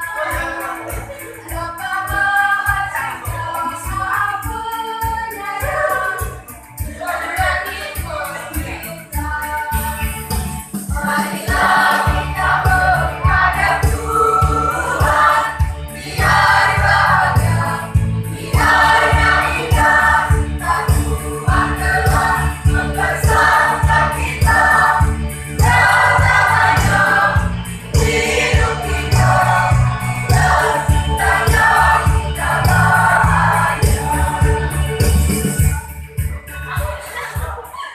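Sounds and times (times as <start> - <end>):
choir of young voices singing: 0.0 - 9.2, 10.9 - 35.7
electronic keyboard with bass beat: 0.0 - 37.8.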